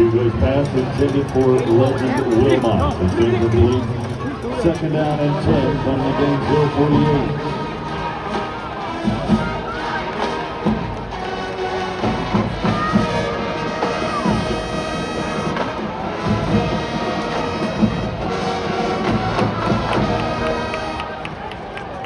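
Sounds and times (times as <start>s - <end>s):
brass notes: 0.0s - 22.0s
crowd noise: 0.0s - 22.0s.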